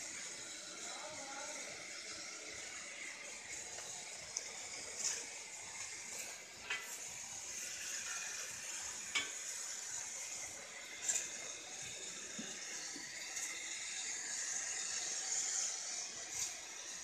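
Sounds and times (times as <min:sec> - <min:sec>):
milk boiling with sizzling hiss: 0:00.0 - 0:17.0.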